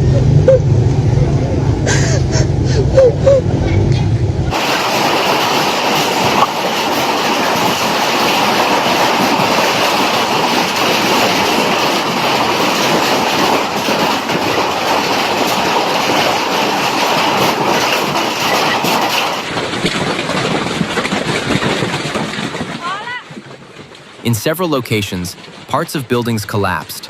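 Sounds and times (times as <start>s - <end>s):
hailstones clattering: 4.5s - 27.0s.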